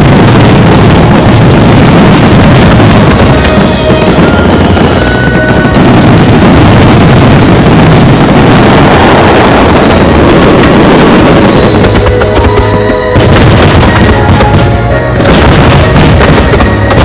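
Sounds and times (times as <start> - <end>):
fireworks bursting: 0.0 - 17.0
music: 0.0 - 17.0.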